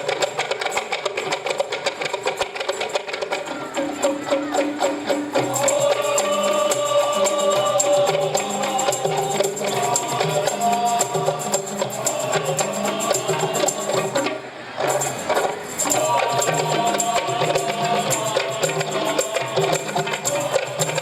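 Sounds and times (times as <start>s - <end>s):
tambourine jingling: 0.0s - 21.0s.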